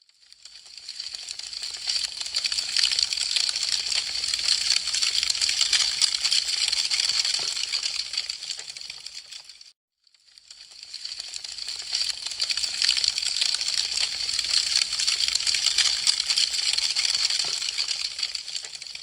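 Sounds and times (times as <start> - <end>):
wood fire crackling: 0.2 - 9.7, 10.3 - 19.0.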